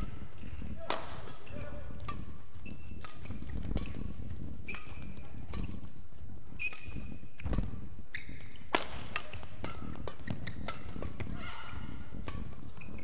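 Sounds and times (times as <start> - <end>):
rackets hitting shuttlecock: 0.0 - 6.0, 6.6 - 13.0
shoes squeaking on court: 0.0 - 13.0.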